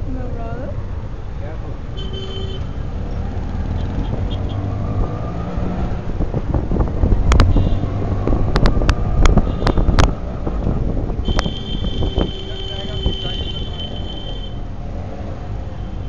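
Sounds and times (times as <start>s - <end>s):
loud engine rumble: 0.0s - 16.0s.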